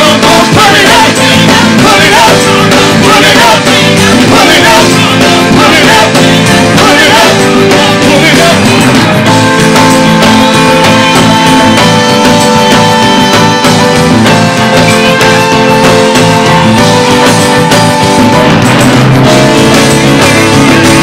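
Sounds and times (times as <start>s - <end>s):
live band playing loud music: 0.0s - 21.0s.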